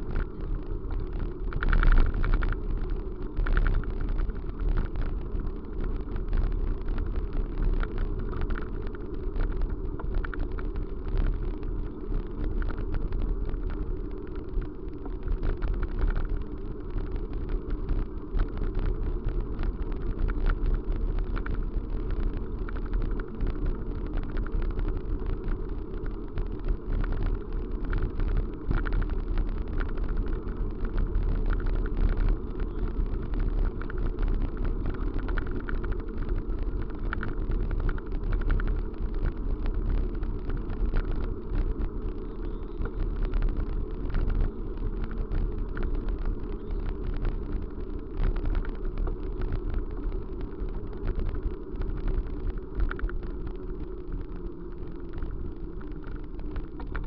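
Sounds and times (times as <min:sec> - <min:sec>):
vehicle rumbling in motion: 0:00.0 - 0:57.0.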